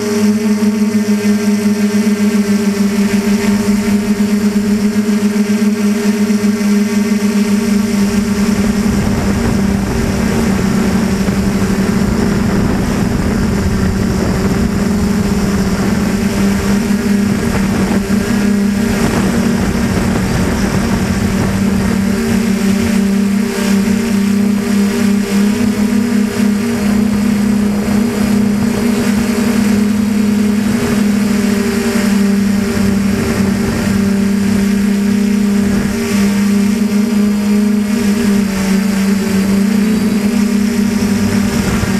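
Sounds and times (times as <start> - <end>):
drone motors buzzing: 0.0 - 41.9.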